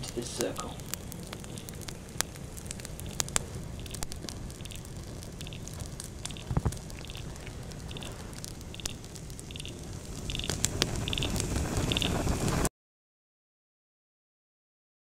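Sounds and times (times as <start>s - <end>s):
campfire crackling and popping: 0.0s - 12.7s.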